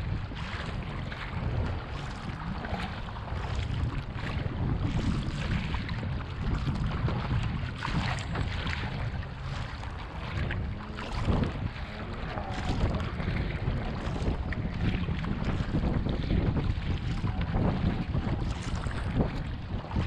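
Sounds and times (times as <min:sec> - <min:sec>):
paddle strokes splashing: 0:00.0 - 0:20.0
water rushing past a hull: 0:00.0 - 0:20.0
wind buffeting microphone: 0:00.0 - 0:20.0.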